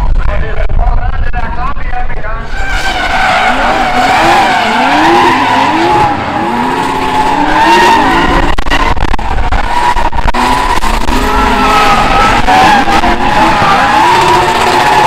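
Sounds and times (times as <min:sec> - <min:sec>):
car engine revving: 0:02.4 - 0:15.0
tyres squealing: 0:02.5 - 0:15.0.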